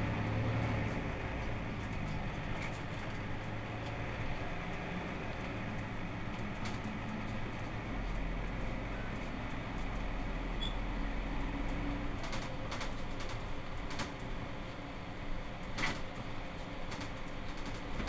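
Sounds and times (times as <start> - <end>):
bus diesel engine idling: 0.0 - 18.0.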